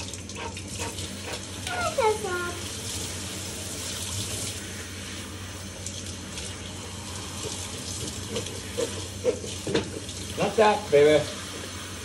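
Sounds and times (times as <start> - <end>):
water spray hissing: 1.0 - 12.0.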